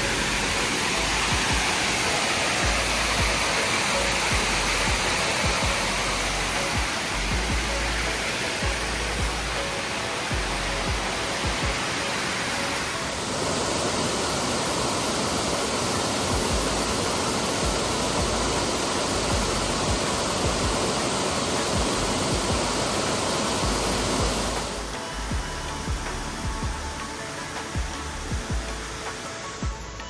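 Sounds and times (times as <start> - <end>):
background music: 0.0 - 30.0
steady rushing noise: 0.0 - 30.0.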